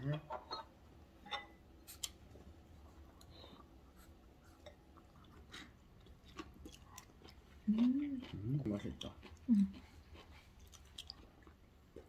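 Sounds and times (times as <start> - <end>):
quiet chewing: 1.9 - 12.0.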